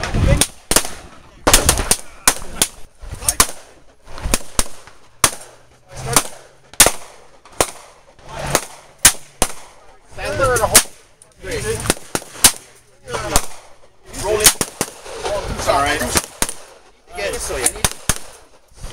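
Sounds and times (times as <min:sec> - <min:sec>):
gunshots: 0:00.0 - 0:18.9.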